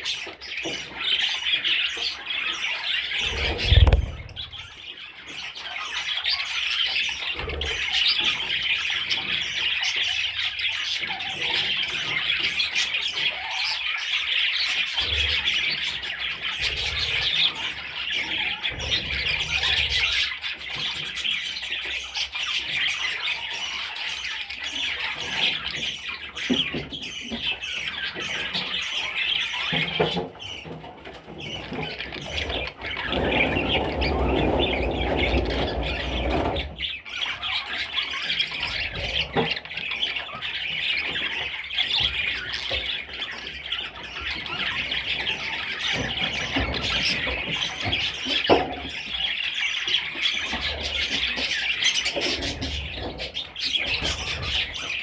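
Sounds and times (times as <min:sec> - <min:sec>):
budgerigars chattering and squawking: 0:00.0 - 0:55.0.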